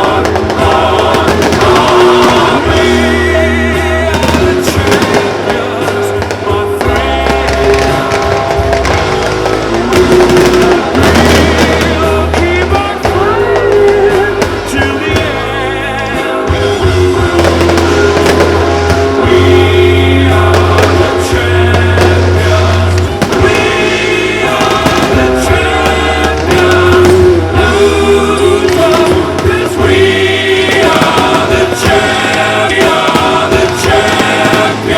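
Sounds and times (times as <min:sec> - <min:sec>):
fireworks bangs and crackling: 0:00.0 - 0:34.9
music with singing: 0:00.0 - 0:34.9
steady bass line: 0:00.0 - 0:34.9.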